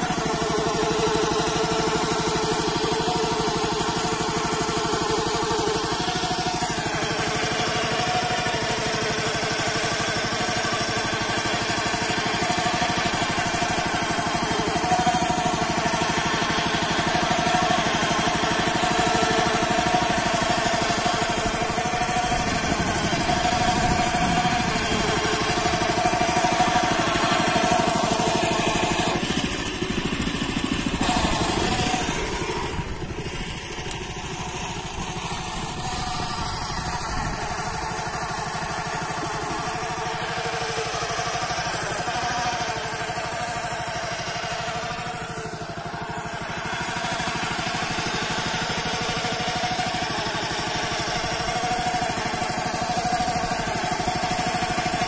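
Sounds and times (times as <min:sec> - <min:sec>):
walking tractor engine running: 0:00.0 - 0:55.0.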